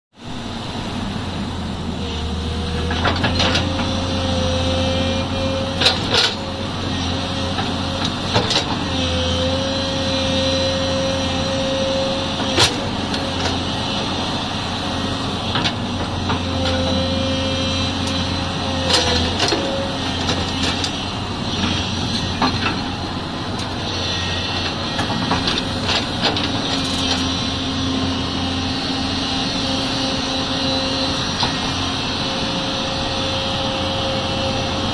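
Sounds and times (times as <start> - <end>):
excavator engine drone: 0.2 - 34.9
hydraulic whine: 0.2 - 34.9.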